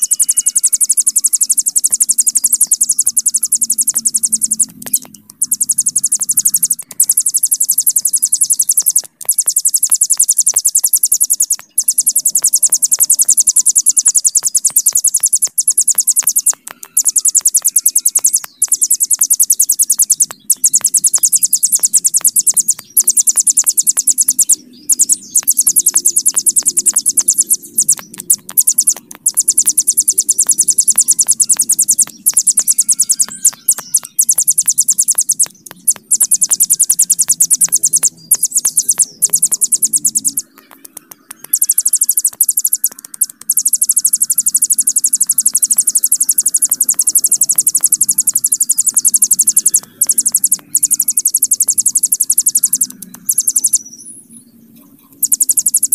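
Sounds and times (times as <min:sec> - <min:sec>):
bird buzzing trill: 0:00.0 - 0:53.9, 0:55.2 - 0:55.9.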